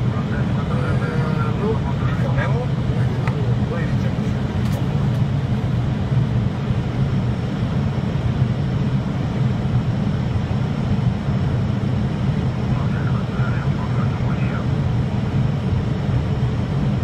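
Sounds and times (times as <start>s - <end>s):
airliner engine drone: 0.0s - 17.0s.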